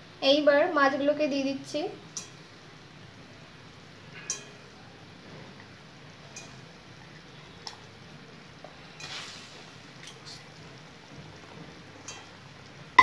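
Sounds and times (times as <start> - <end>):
sizzle: 0.0 - 13.0
gravy simmering in a wok: 1.2 - 13.0.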